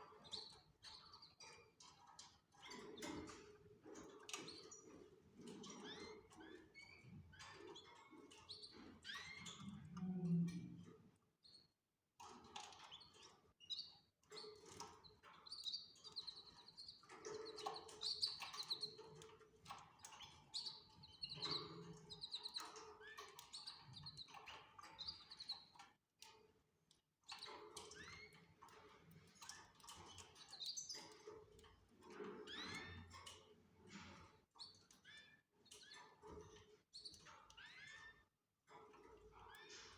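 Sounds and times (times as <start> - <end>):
canaries chirping: 0.0 - 3.4, 4.3 - 9.6, 12.6 - 25.8, 27.3 - 33.4, 34.2 - 38.2.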